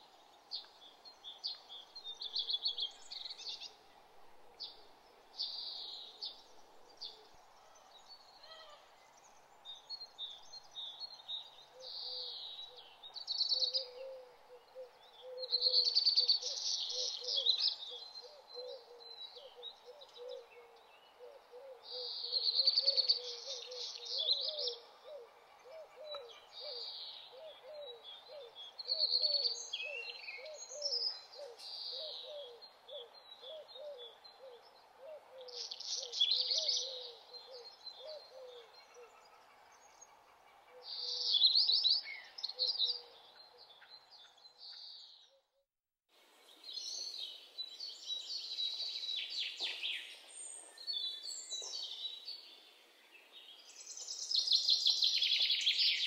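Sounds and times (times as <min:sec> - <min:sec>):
birds chirping and singing: 0:05.4 - 0:45.4, 0:46.5 - 0:56.0.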